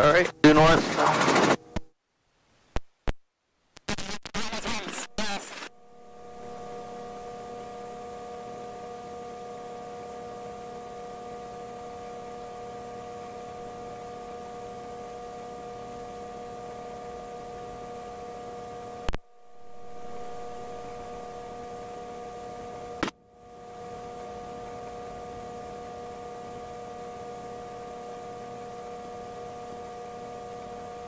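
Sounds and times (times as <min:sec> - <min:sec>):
steady hum with fixed tones: 0:00.0 - 0:31.0.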